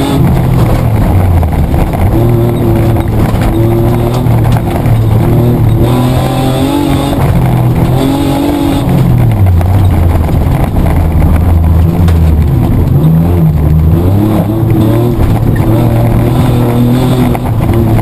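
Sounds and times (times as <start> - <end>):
car engine under load: 0.0 - 18.0
knocks and rattles: 0.0 - 18.0.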